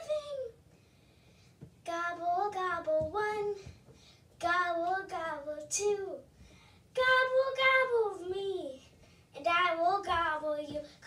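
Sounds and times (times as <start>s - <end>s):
girl singing unaccompanied: 0.0s - 0.7s, 1.8s - 11.0s.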